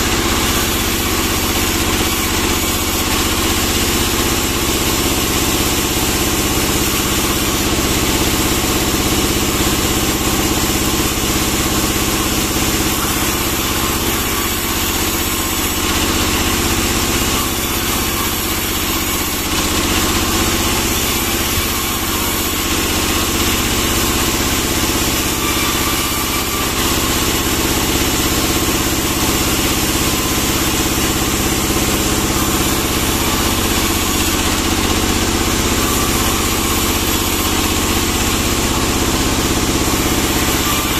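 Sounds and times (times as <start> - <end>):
sawmill machine drone: 0.0 - 40.9.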